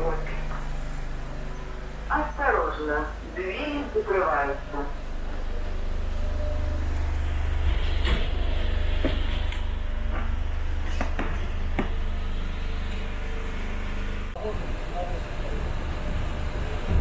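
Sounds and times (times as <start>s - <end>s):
vehicle interior low rumble: 0.0s - 17.0s.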